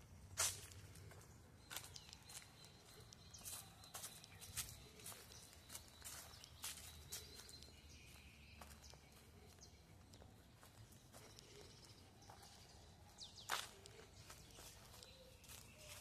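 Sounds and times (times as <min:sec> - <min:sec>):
footsteps on dry leaves: 0:00.2 - 0:09.4, 0:10.2 - 0:16.0.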